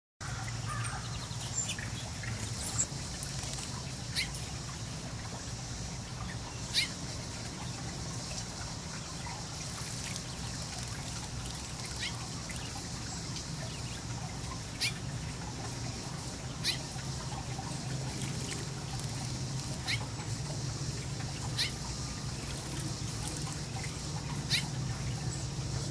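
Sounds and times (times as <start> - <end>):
low steady hum: 0.2 - 25.9
water trickling over pebbles: 0.2 - 25.9.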